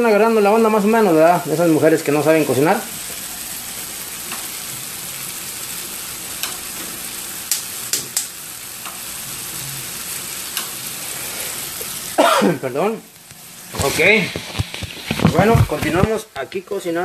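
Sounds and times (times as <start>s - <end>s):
eggs sizzling in a skillet: 0.0s - 17.0s
oil crackling and popping: 1.5s - 12.2s, 13.0s - 16.7s.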